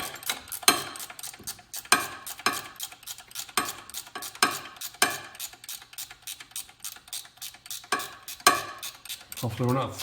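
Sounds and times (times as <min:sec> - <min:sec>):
metal wrench clicking: 0:00.0 - 0:10.0.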